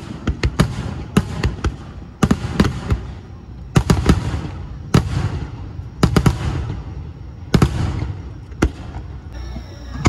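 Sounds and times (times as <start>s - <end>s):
fireworks bangs with echo: 0.0s - 9.2s.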